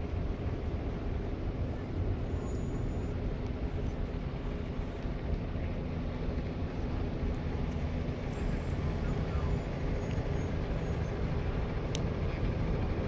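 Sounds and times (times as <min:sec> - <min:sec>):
distant vehicle engines rumbling: 0:00.0 - 0:13.0.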